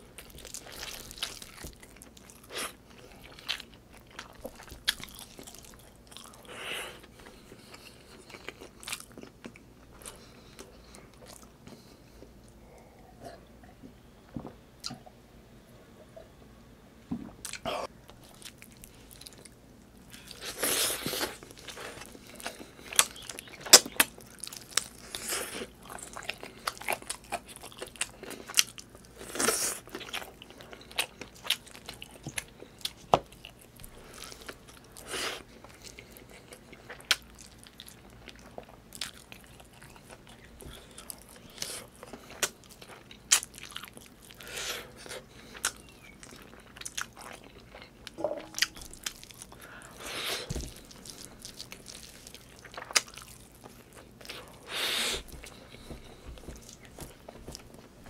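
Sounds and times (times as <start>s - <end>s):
close chewing and biting: 0.0s - 12.3s, 17.4s - 58.0s.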